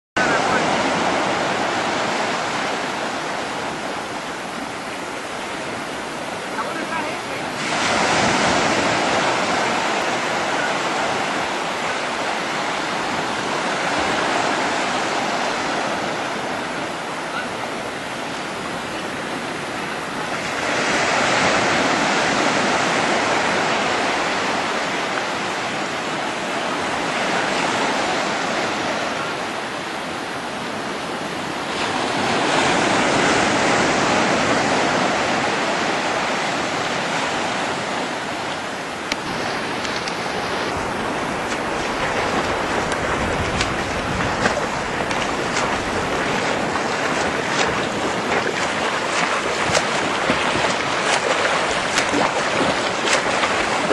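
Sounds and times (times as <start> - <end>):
small waves breaking on beach: 0.2 - 53.9.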